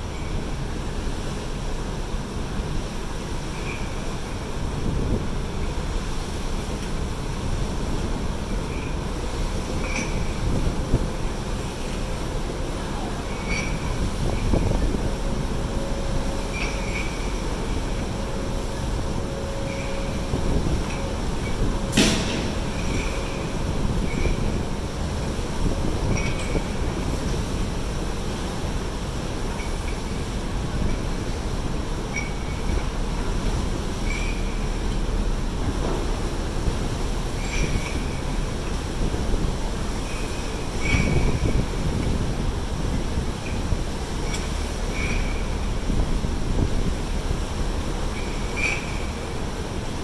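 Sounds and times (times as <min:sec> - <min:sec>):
churned sea water: 0:00.0 - 0:50.0
wind rumble: 0:03.6 - 0:50.0.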